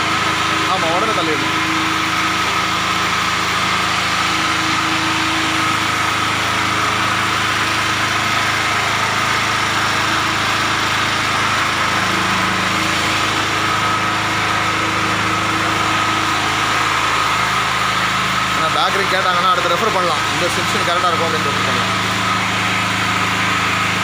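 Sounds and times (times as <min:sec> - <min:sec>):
portable generator engine running: 0:00.0 - 0:24.0.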